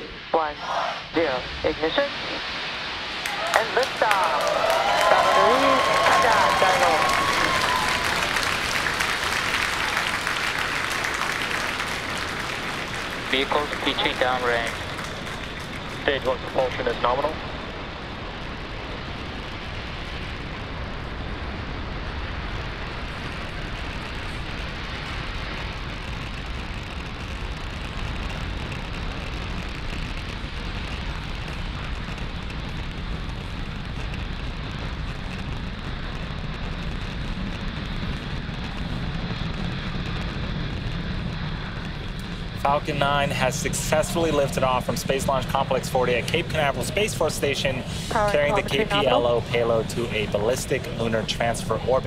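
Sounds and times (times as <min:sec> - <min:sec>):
rocket exhaust rumble: 0:00.0 - 0:52.0.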